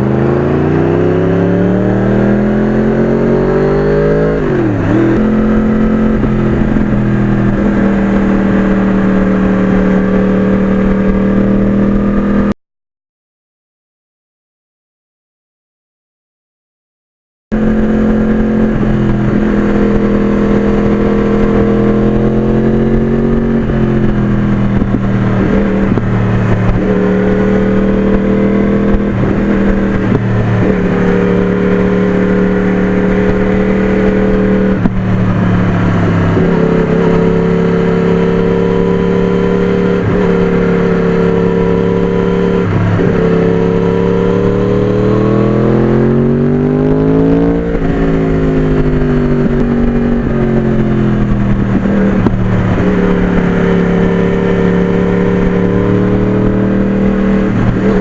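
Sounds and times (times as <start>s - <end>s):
motorcycle engine running: 0.0s - 12.5s, 17.5s - 58.0s.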